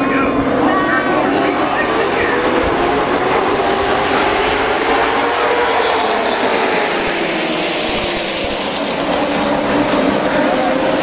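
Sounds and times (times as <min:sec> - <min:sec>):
racing car engines droning: 0:00.0 - 0:11.0.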